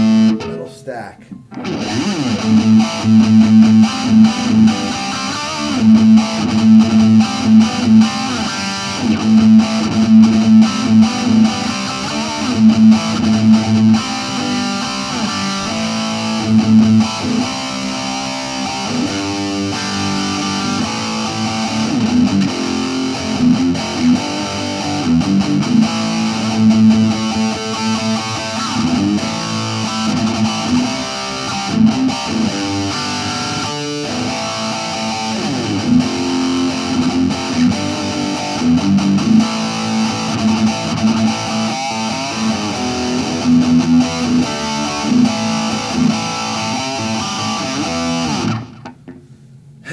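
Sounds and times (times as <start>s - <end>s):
distorted electric guitar riffs: 0.0s - 49.2s.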